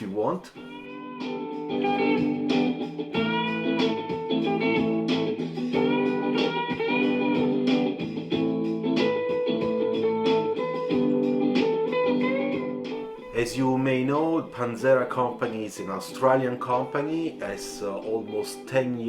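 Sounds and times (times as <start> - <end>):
bluesy plucked guitar: 0.0 - 19.0.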